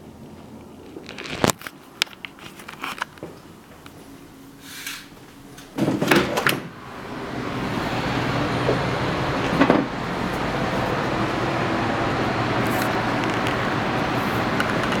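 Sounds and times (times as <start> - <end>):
heavy road traffic: 0.0 - 5.8, 6.4 - 15.0.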